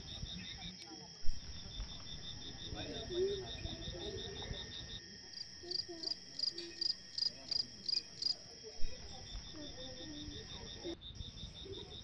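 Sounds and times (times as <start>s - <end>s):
crickets trilling: 0.0s - 12.0s
faint distant voices: 0.0s - 12.0s
loud cricket chirp: 0.0s - 12.0s.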